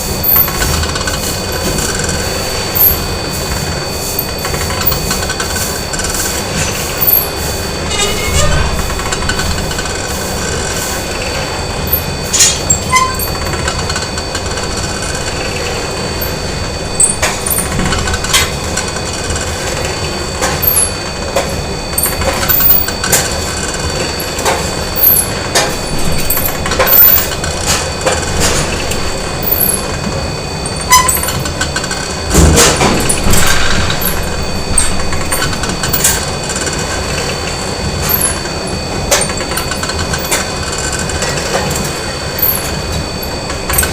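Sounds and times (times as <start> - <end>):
factory machine noise: 0.0 - 43.9
high machine whines: 0.0 - 43.9.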